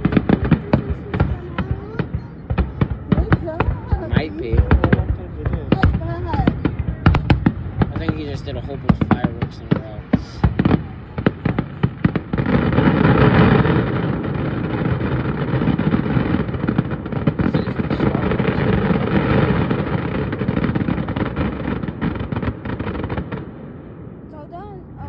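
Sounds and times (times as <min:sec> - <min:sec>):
firework bangs: 0:00.0 - 0:25.0
fireworks booming and crackling: 0:00.0 - 0:25.0.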